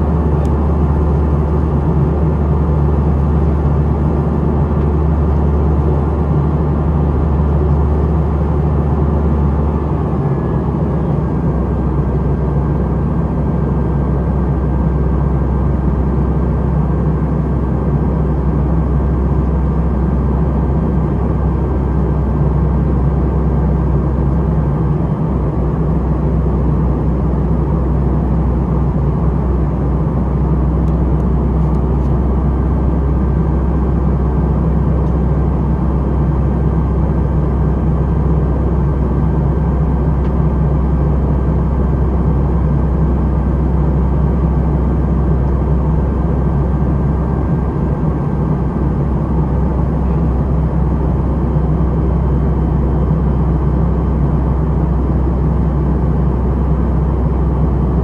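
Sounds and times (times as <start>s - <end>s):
low jet engine drone: 0.0s - 58.0s.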